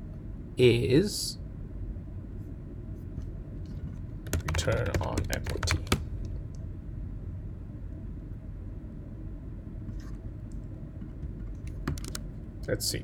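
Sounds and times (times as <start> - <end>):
low room and microphone rumble: 0.0 - 13.0.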